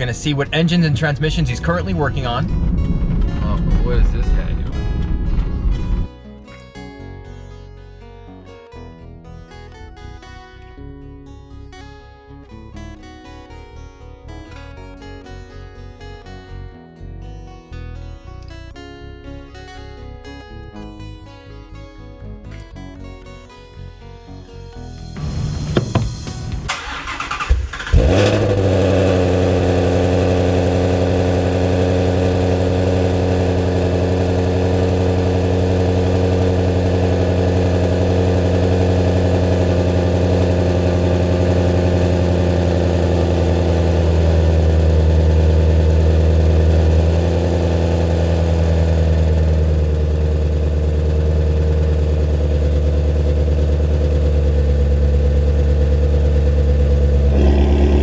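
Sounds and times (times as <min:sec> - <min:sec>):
car engine starting and idling: 0:00.0 - 0:06.3, 0:06.9 - 0:58.0.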